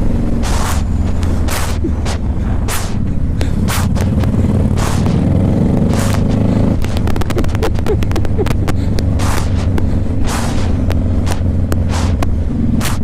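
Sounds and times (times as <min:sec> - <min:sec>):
motorcycle engine running: 0:00.0 - 0:13.0
wind hitting microphone: 0:00.0 - 0:13.0
quick clicks: 0:00.4 - 0:13.0.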